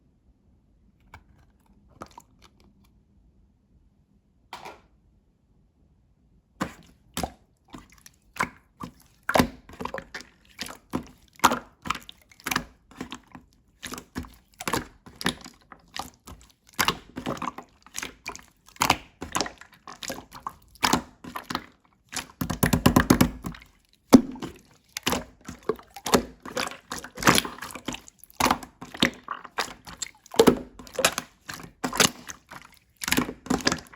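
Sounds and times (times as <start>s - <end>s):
slime squished by hand: 6.6s - 33.9s.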